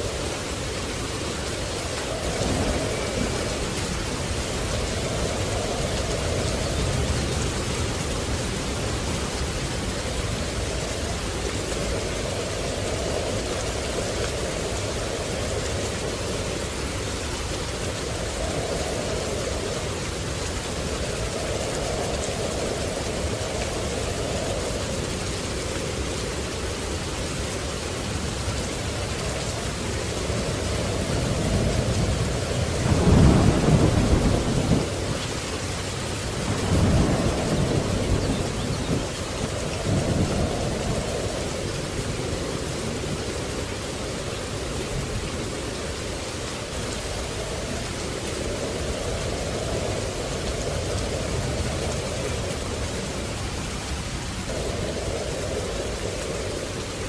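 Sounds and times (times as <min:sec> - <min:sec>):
steady rain: 0:00.0 - 0:57.0
thunder rumbling: 0:00.0 - 0:57.0.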